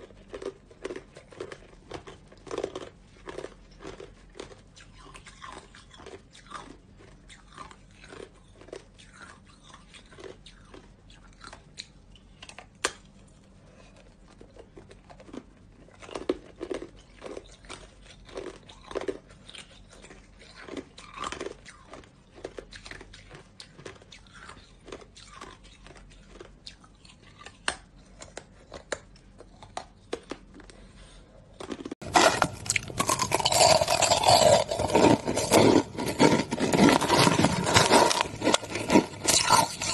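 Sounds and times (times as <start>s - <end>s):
ice being chewed crunching: 0.0s - 31.0s, 31.6s - 39.9s.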